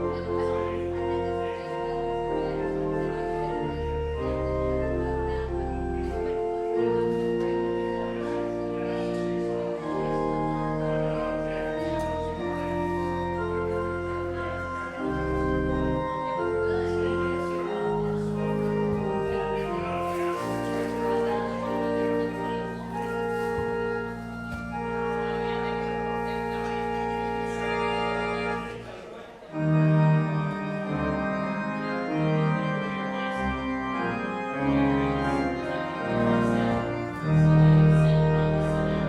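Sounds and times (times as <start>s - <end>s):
church organ chords: 0.0s - 39.0s.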